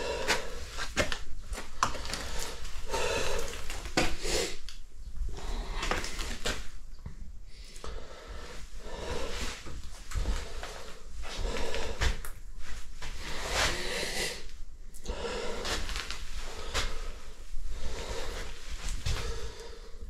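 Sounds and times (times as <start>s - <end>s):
rustling and shuffling: 0.0s - 4.2s, 5.1s - 7.6s, 8.2s - 20.0s
close breathing: 0.0s - 6.7s, 7.4s - 20.0s.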